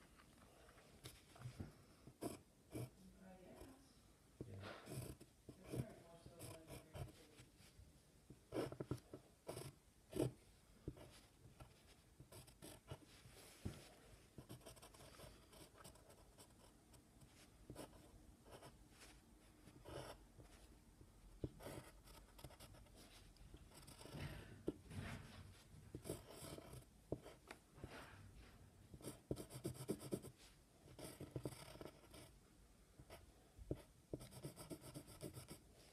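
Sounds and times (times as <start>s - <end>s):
pencil scratching on paper: 2.0s - 3.8s, 4.6s - 7.7s, 8.5s - 20.7s, 21.4s - 28.2s, 28.9s - 32.4s, 33.0s - 35.9s.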